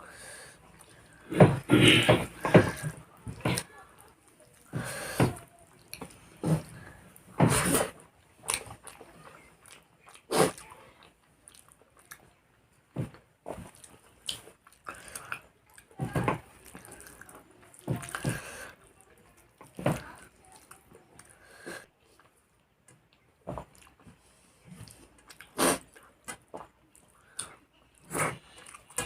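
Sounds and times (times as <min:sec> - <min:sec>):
person chewing rice: 0:00.1 - 0:12.2, 0:13.0 - 0:18.8, 0:19.5 - 0:21.6, 0:22.2 - 0:29.0.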